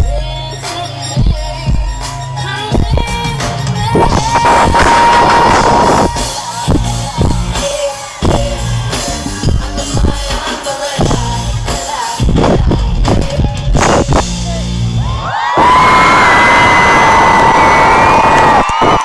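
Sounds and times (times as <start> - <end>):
live pop rock band: 0.0 - 19.0.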